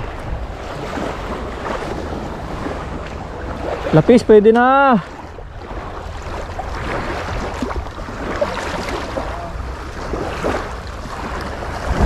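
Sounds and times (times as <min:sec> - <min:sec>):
sea waves washing ashore: 0:00.0 - 0:12.0
wind buffeting microphone: 0:00.0 - 0:12.0.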